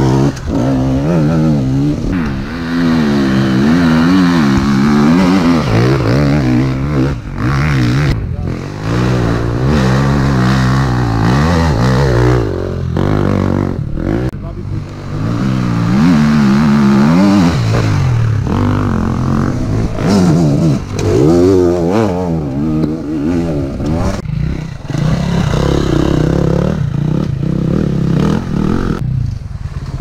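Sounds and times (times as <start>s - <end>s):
motorcycle approaching: 0.0s - 30.0s
motorcycle engine revving: 0.0s - 30.0s.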